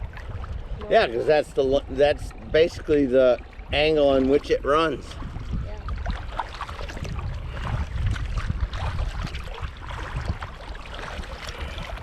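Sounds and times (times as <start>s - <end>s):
paddle splashing and dripping: 0.0s - 12.0s
steady low rumble: 0.0s - 12.0s.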